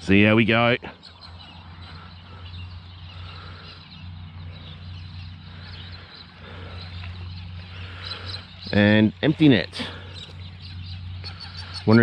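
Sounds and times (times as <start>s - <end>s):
faint bird calls: 0.0s - 12.0s
steady low hum: 0.0s - 12.0s.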